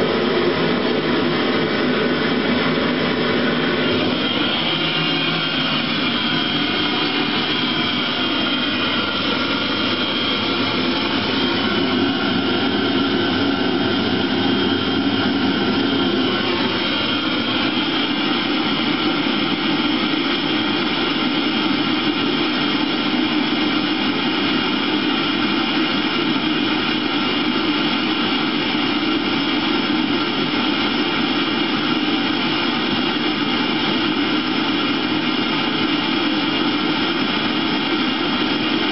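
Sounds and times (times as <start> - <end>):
heater blower and burner noise: 0.0 - 38.9.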